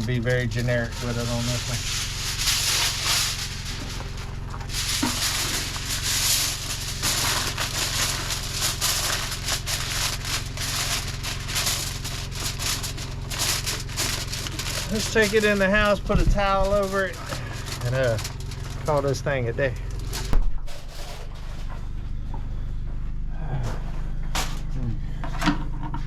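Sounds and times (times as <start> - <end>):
aluminium foil crinkling: 0.0 - 21.7
steady low hum: 0.0 - 26.0.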